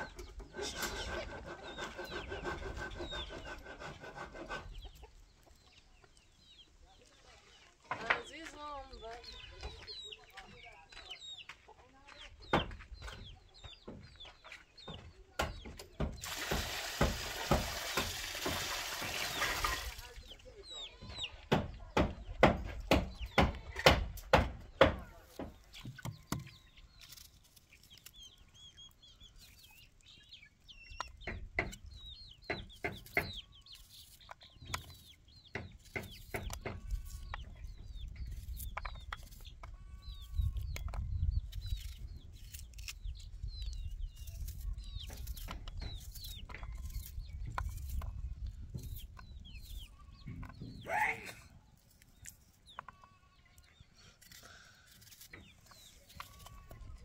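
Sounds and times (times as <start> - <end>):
chickens clucking: 0.0 - 16.3, 17.0 - 57.0.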